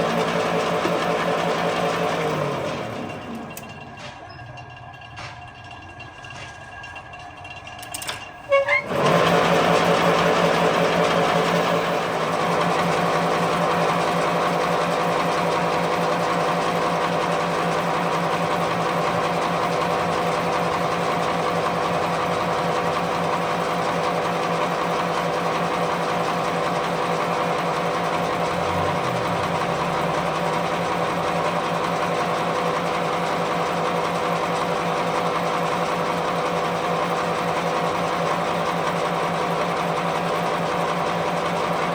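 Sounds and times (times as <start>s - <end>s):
machine humming and whining: 0.0s - 38.2s.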